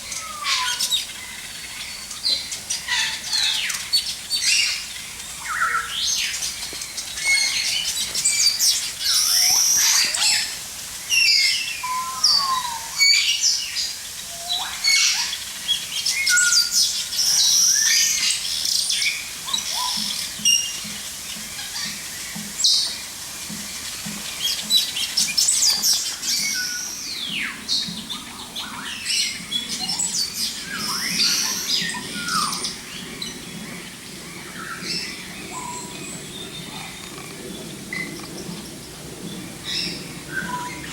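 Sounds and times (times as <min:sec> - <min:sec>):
many birds chirping and calling: 0:00.0 - 0:40.9.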